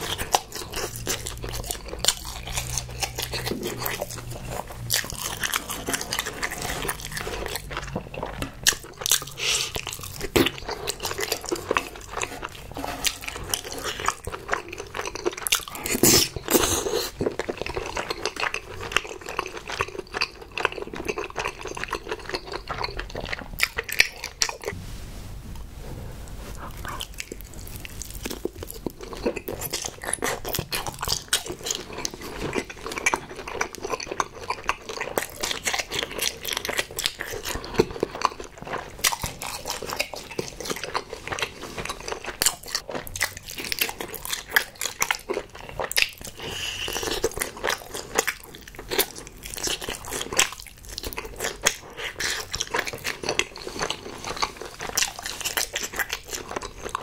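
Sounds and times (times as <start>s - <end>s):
person biting and chewing: 0.0s - 24.8s, 26.5s - 57.0s.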